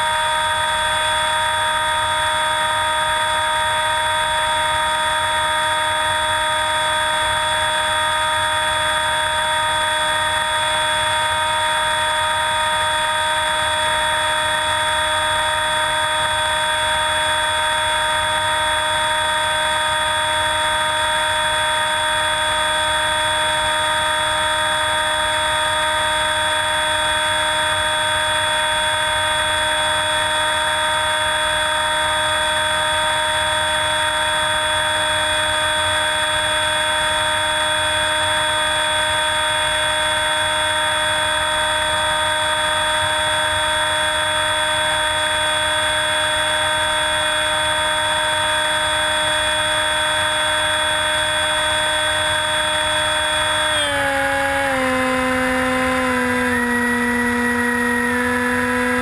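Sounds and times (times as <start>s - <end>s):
electric motor and propeller whine: 0.0s - 59.0s.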